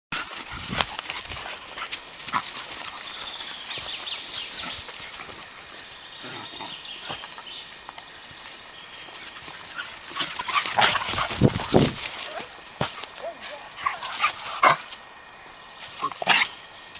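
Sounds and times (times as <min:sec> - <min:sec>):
paws and footsteps on dry leaves: 0:00.1 - 0:16.9.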